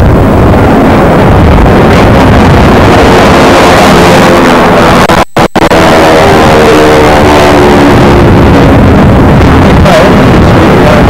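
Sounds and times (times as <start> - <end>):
propeller plane piston engine: 0.0 - 11.0.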